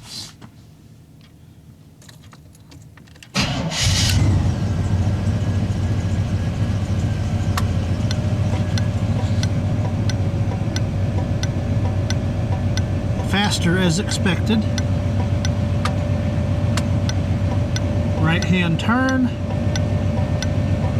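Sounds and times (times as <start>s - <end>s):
truck engine starting and idling: 3.3s - 20.9s.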